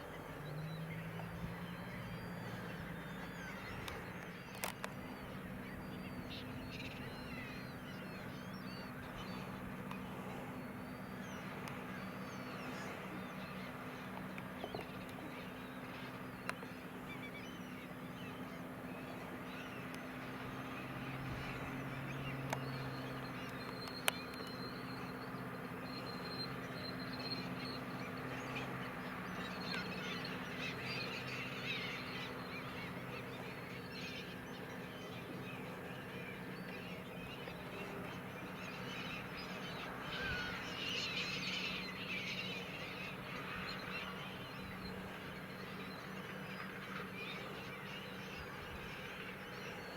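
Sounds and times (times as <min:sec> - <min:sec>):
gulls calling: 0:00.0 - 0:49.9.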